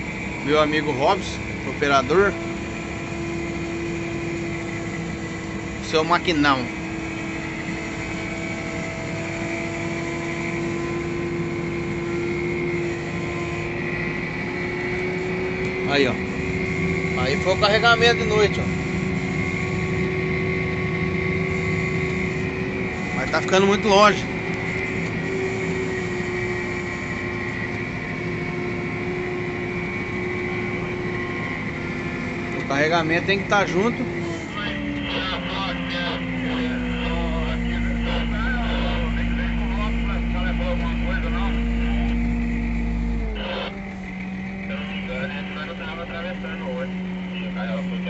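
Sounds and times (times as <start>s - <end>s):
steady high whine: 0.0s - 48.0s
tractor engine droning: 0.0s - 48.0s.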